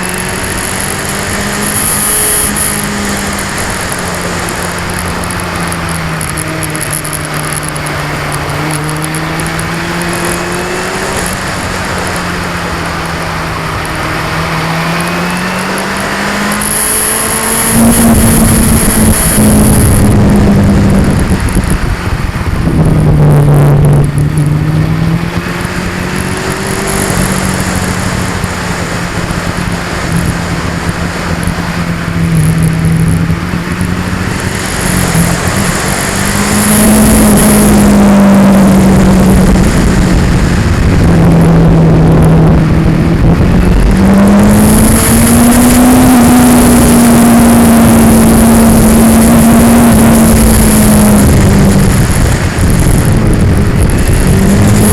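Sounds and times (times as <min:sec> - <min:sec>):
motorcycle engine revving: 0:00.0 - 0:54.9
wind rumble on camera: 0:00.0 - 0:54.9.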